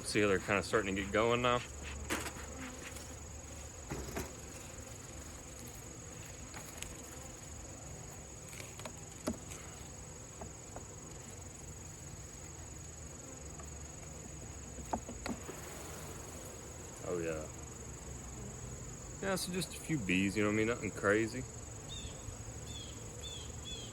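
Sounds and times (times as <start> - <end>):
honeybees buzzing: 0.0 - 23.9.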